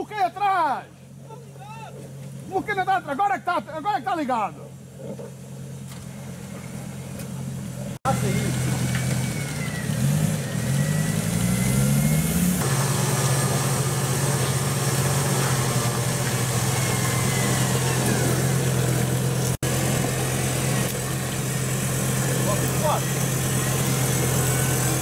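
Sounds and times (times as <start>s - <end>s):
jeep engine running under load: 0.0s - 25.0s.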